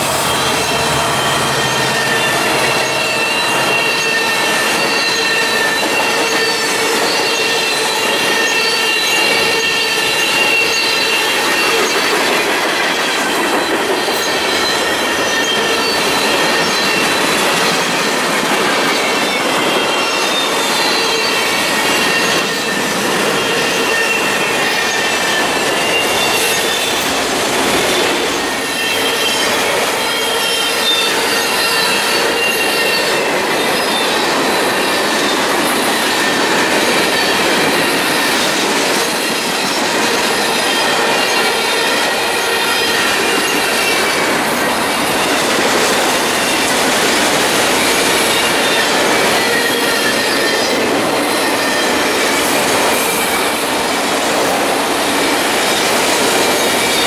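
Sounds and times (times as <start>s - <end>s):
wheels squealing: 0.0s - 53.6s
train wheels rumbling on rail: 0.0s - 57.0s.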